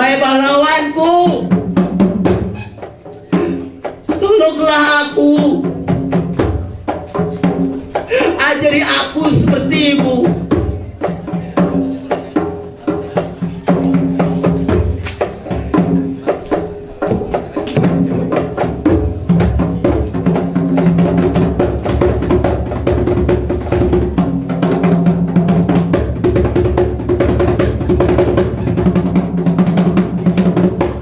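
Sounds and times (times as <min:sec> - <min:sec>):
fast percussion strikes: 0:00.0 - 0:31.0.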